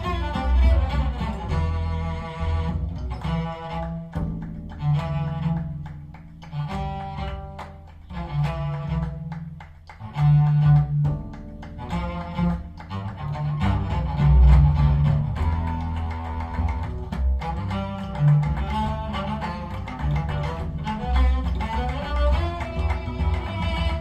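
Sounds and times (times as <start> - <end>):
deep bass notes: 0.0 - 24.0
string instrumental music: 0.0 - 24.0.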